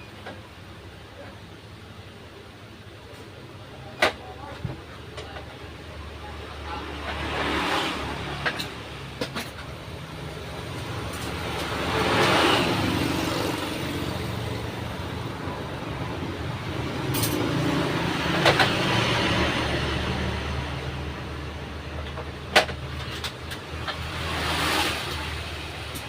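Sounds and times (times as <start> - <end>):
traffic rumble: 0.0 - 26.0
vehicles passing: 0.0 - 26.0.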